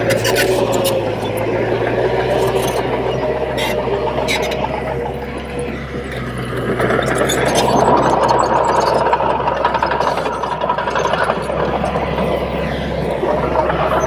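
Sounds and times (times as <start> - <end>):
bulldozer diesel engine running: 0.0 - 14.0
rattling mechanical clatter: 0.0 - 14.0.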